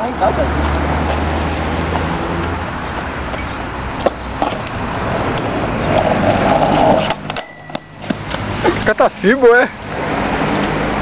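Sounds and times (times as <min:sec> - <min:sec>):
skateboard wheels rolling on asphalt: 0:00.0 - 0:11.0.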